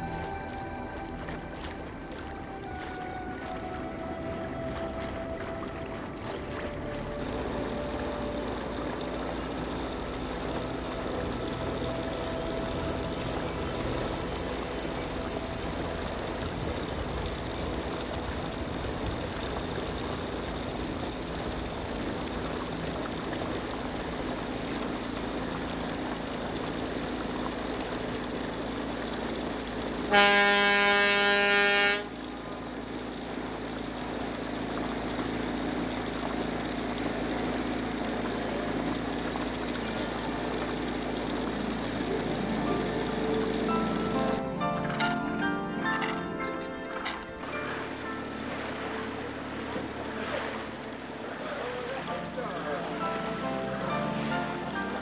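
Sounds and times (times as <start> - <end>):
ship's horn: 0.0 - 23.5, 29.8 - 34.9, 37.1 - 55.0.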